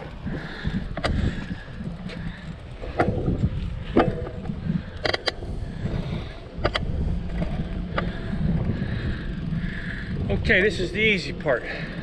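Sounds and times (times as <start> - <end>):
bicycle tyre noise on pavement: 0.0 - 12.0
wind on microphone: 0.0 - 12.0.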